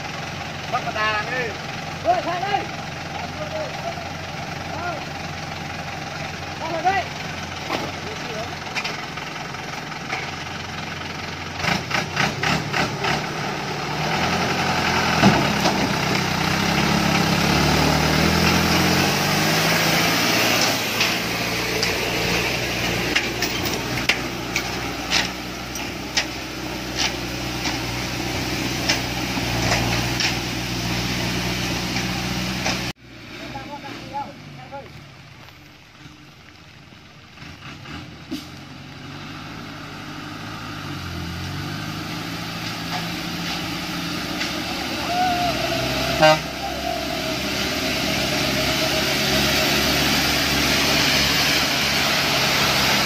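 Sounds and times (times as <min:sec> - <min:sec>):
diesel truck engine labouring: 0:00.0 - 0:53.0.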